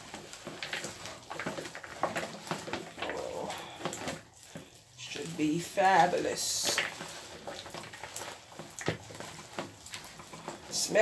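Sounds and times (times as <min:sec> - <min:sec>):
rustling: 0:00.0 - 0:11.0
wet squelches: 0:00.0 - 0:11.0.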